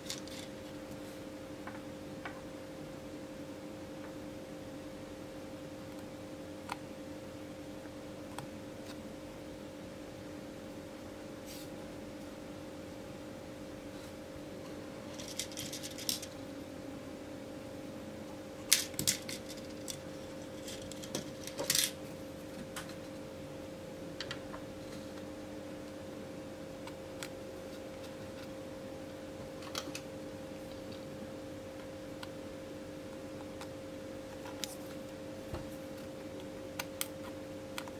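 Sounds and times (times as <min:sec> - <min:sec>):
faint hum: 0:00.0 - 0:37.9.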